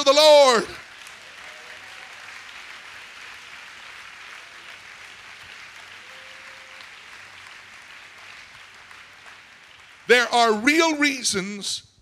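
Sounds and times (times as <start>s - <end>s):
crowd clapping: 0.0s - 11.2s.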